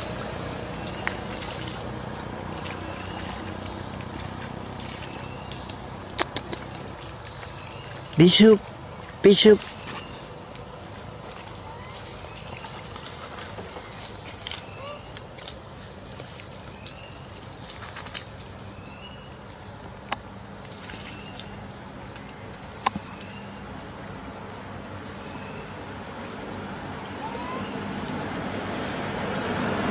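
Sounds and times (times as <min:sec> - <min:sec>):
insect chorus drone: 0:00.0 - 0:29.9.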